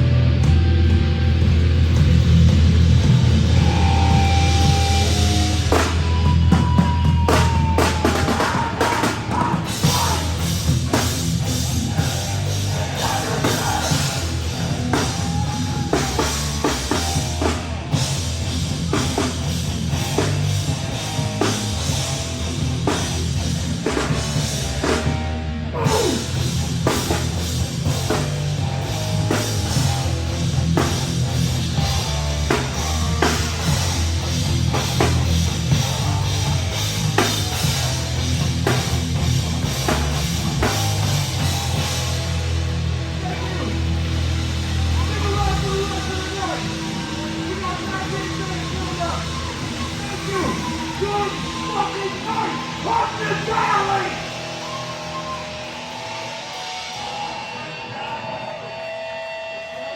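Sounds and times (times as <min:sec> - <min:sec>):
loud heavy rock band: 0:00.0 - 0:59.9.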